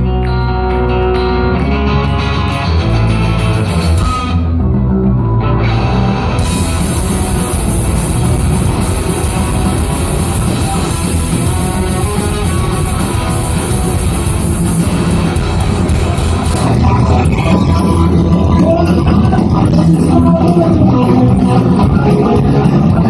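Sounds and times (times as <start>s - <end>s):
electric guitar: 0.0s - 23.0s
rock band playing live: 0.0s - 23.0s.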